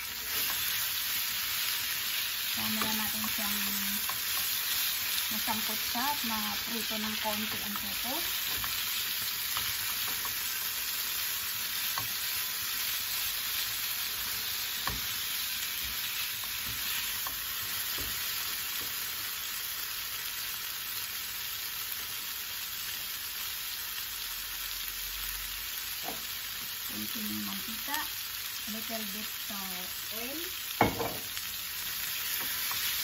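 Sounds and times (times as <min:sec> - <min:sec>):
tofu sizzling in oil: 0:00.0 - 0:33.0.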